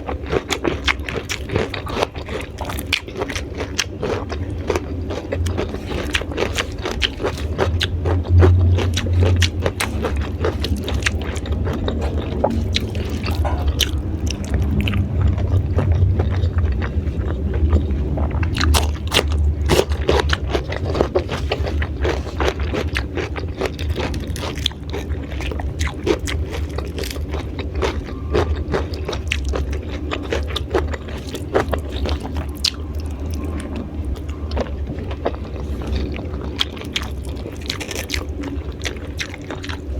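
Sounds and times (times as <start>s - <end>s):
crunching raw vegetables: 0.0s - 39.9s
low hum: 0.0s - 39.9s.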